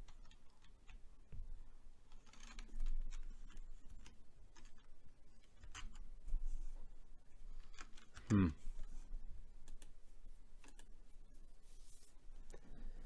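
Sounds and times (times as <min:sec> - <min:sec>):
soft rustle: 0:00.2 - 0:13.0.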